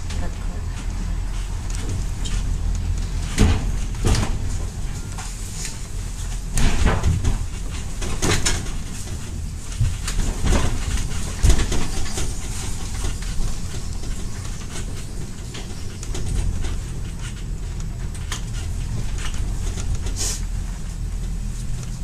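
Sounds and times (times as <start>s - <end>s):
funicular car rumbling on rails: 0.0s - 22.0s.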